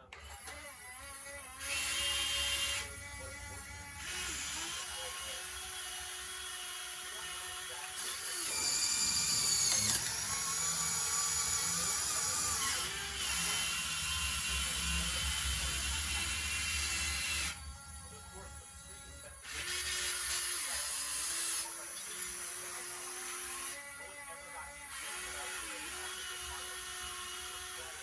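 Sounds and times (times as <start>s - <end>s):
small electric motor whining: 0.0s - 28.0s.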